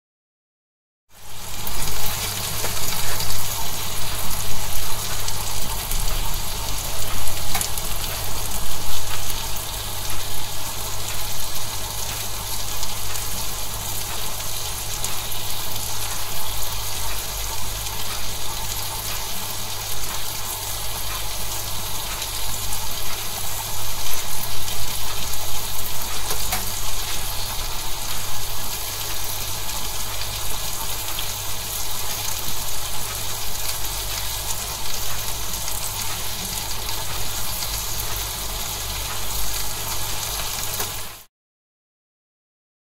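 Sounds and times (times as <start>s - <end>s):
steak sizzling in a pan: 1.2s - 41.3s.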